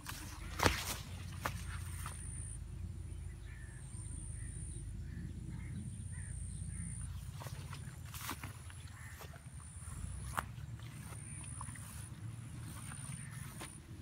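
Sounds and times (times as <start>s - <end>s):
distant bird calls: 0.0s - 14.0s
low microphone rumble: 0.4s - 14.0s.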